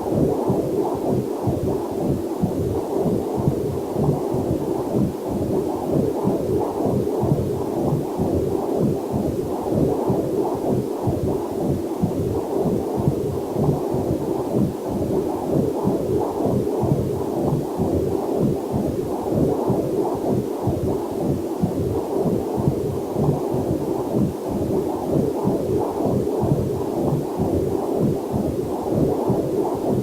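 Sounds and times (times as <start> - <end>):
faint steady rush: 0.0 - 30.0
fetal heartbeat whooshing pulses: 0.0 - 30.0.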